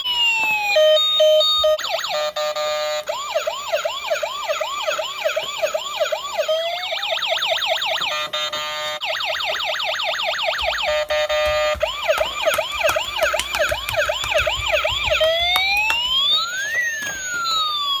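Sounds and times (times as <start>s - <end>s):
toy electronic siren: 0.0s - 18.0s.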